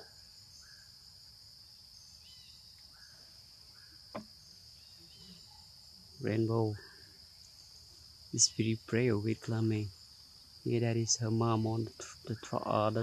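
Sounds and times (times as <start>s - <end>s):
faint bird chirps: 0.0s - 13.0s
high-pitched insect chorus: 0.0s - 13.0s.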